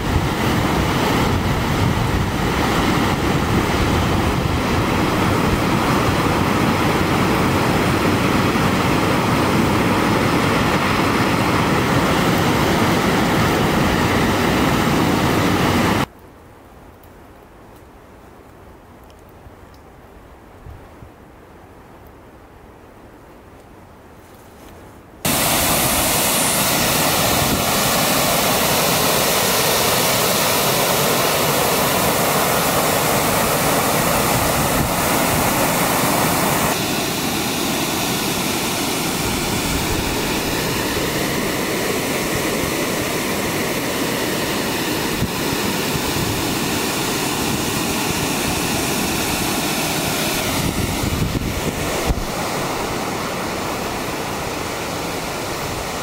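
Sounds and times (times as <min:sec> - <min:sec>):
waterfall roaring: 0:00.0 - 0:16.1, 0:25.2 - 0:56.0.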